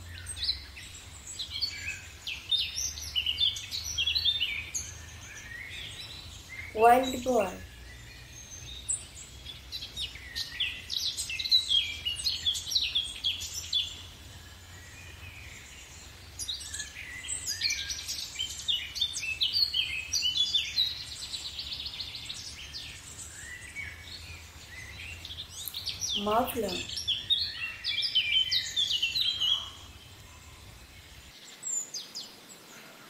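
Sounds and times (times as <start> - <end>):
songbirds chirping and singing: 0.0 - 33.0.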